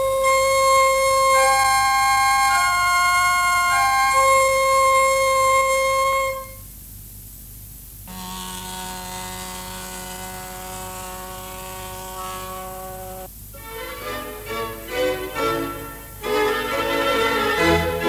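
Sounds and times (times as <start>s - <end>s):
organ pipes sounding chords: 0.0s - 6.7s, 8.1s - 18.0s.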